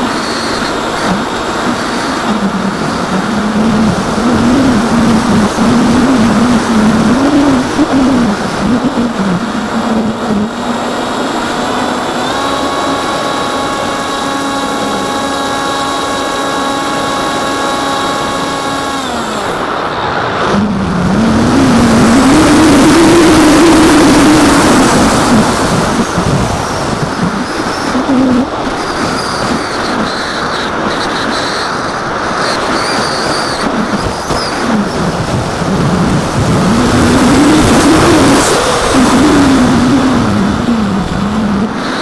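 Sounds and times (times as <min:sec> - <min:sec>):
wind rushing: 0:00.0 - 0:29.6, 0:33.7 - 0:42.0
electric motor and propeller: 0:00.0 - 0:42.0.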